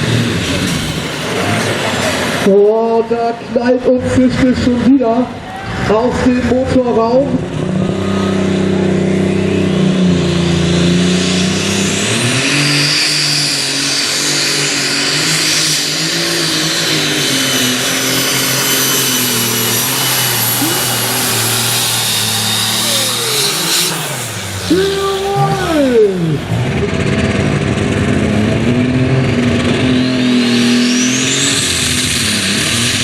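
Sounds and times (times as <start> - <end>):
tractor engine at high revs: 0.0 - 33.0
high whine: 4.4 - 33.0.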